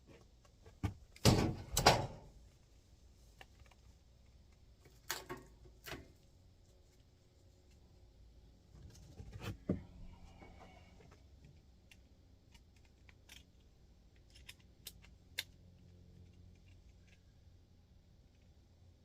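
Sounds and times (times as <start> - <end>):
faint steady low hum: 0.0 - 19.0.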